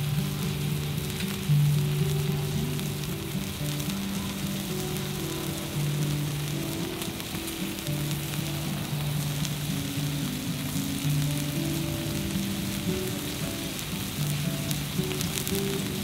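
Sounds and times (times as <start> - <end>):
soft background music: 0.0 - 16.0
steak sizzling: 0.0 - 16.0.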